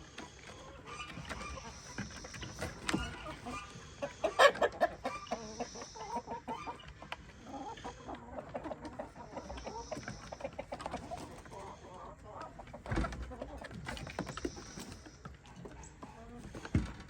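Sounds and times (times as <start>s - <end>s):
chickens squawking: 0.0s - 16.9s
chickens clucking: 0.0s - 17.0s.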